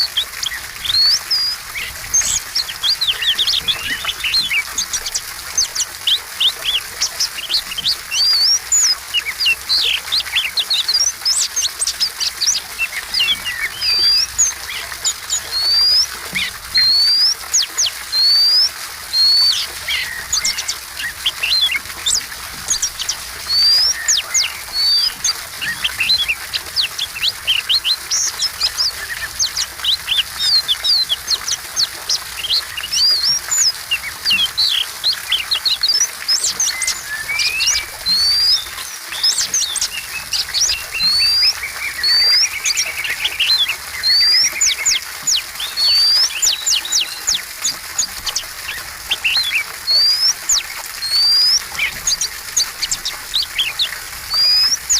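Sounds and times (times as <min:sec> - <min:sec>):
bird singing whistles and chirps: 0:00.0 - 0:54.9.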